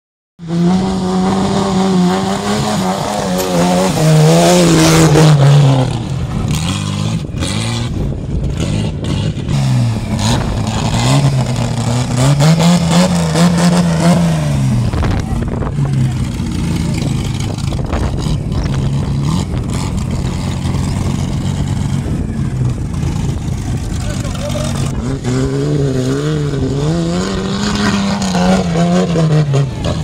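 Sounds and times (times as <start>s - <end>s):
buggy engine revving hard: 0.4s - 30.0s.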